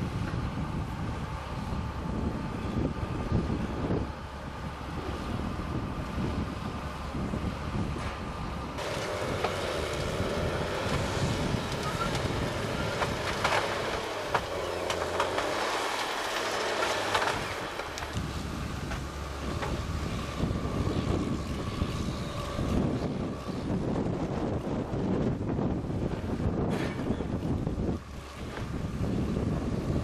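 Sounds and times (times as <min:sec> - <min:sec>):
diesel engine running under load: 0:00.0 - 0:30.0
wind buffeting microphone: 0:00.0 - 0:30.0
hydraulic crane handling logs: 0:00.1 - 0:30.0.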